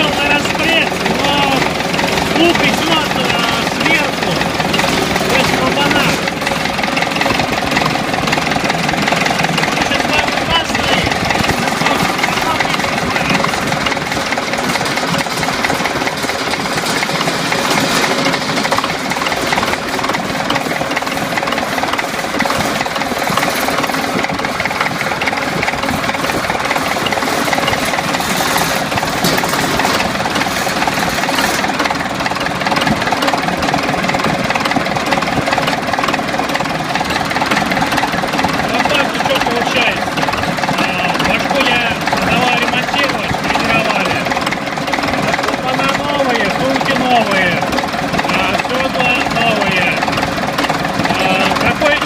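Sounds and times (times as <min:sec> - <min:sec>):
diesel engine running with a knock: 0:00.0 - 0:52.0.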